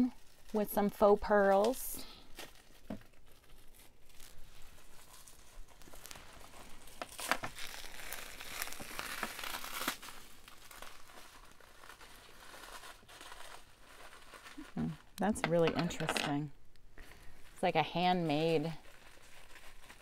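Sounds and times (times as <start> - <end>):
packing wrap crinkling: 0.0 - 20.0.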